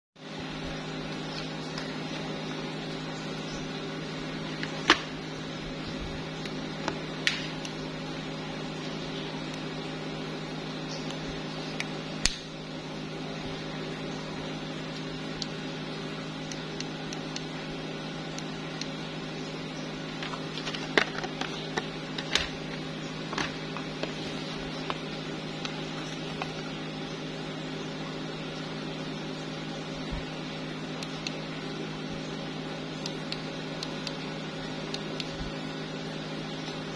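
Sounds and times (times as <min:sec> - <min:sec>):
steady low hum: 0:00.2 - 0:36.9.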